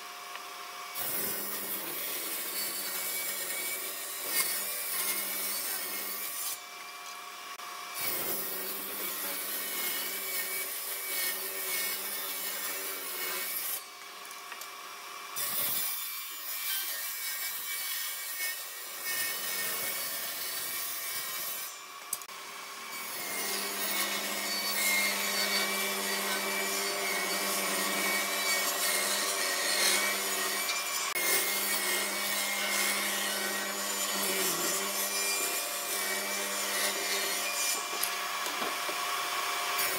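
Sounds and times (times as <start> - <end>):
saw blade cutting wood: 0.9 - 13.9, 15.4 - 39.9.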